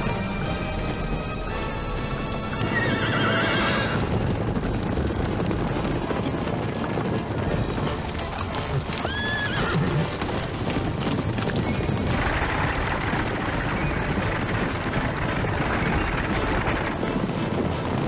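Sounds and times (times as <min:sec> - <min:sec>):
film soundtrack music: 0:00.0 - 0:18.0.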